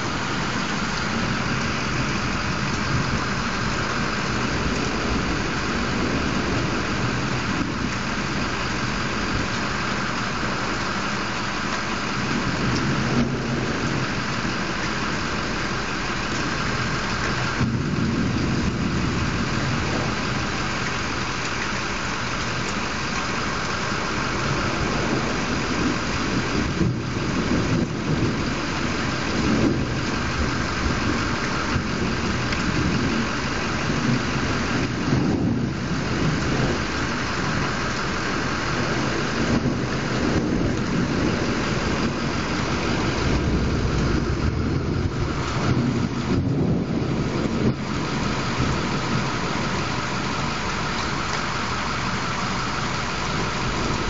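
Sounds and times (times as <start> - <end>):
low thunder rumbling: 0.0 - 54.0
steady rain: 0.0 - 54.0.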